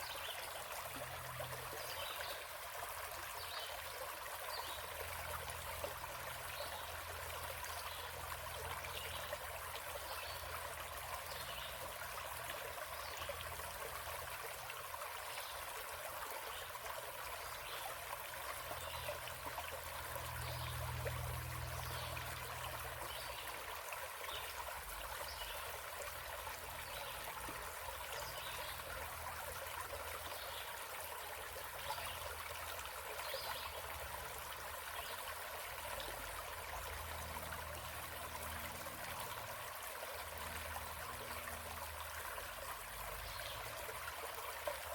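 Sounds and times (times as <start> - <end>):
stream trickling over rocks: 0.0 - 44.9.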